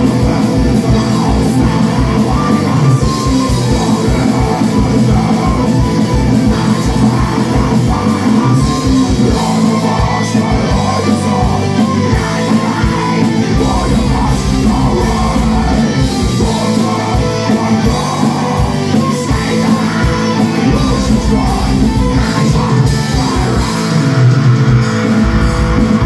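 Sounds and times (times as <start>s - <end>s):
heavy metal band playing: 0.0s - 26.0s.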